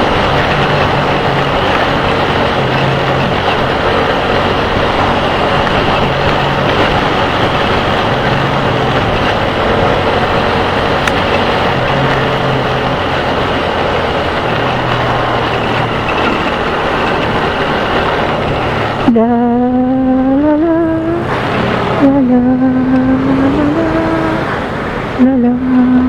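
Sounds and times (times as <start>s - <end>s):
motorcycle engine hum: 0.0s - 26.0s
wind and road noise: 0.0s - 26.0s.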